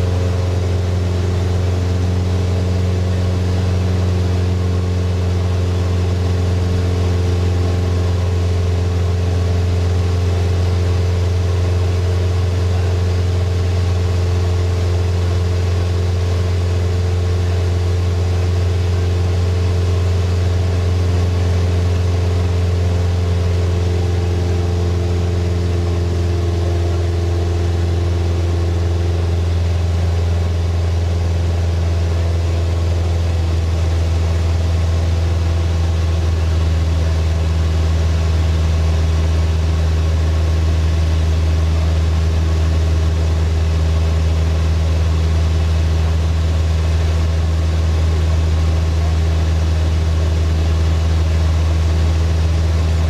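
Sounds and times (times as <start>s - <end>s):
propeller plane engine drone: 0.0s - 53.0s.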